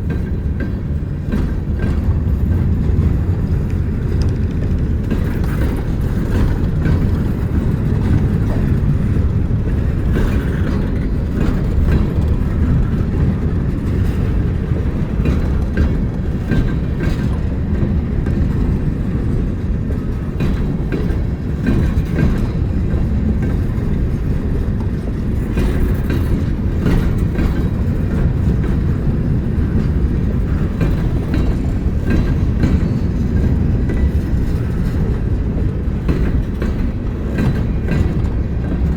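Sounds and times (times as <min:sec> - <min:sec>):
train rumbling past: 0:00.0 - 0:38.9
wheels clicking over rail joints: 0:00.0 - 0:38.9.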